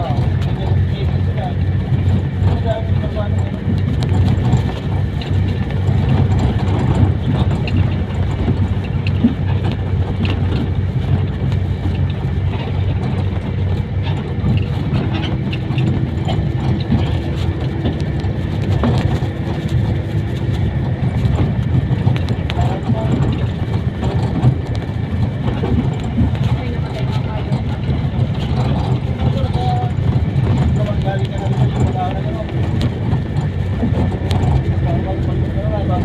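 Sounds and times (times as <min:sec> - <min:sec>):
road rumble: 0:00.0 - 0:36.0
small rattles and clicks: 0:00.0 - 0:36.0
vehicle engine drone: 0:00.0 - 0:36.0.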